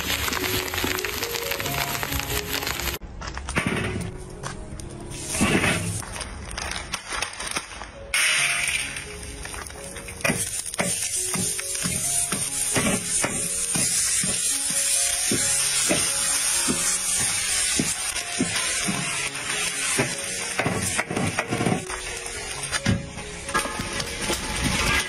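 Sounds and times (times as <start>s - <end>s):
corn sizzling in hot oil: 0.0s - 3.0s, 5.2s - 6.1s, 8.2s - 25.0s
corn popping: 0.0s - 4.2s, 5.3s - 25.0s
background music: 0.0s - 25.0s.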